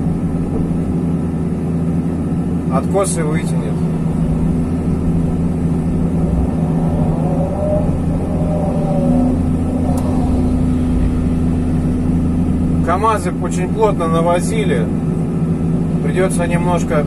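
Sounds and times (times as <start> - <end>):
excavator diesel engine running: 0.0 - 17.0
faint whine: 0.0 - 17.0.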